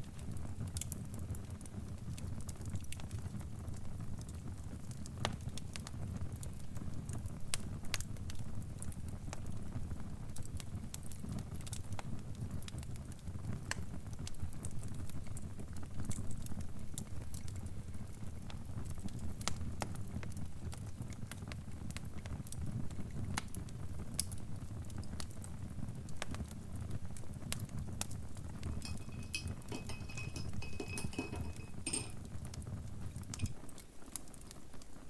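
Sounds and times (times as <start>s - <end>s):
low rumble of fire: 0.0s - 30.1s
fire crackling and popping: 0.0s - 30.7s, 31.6s - 35.0s.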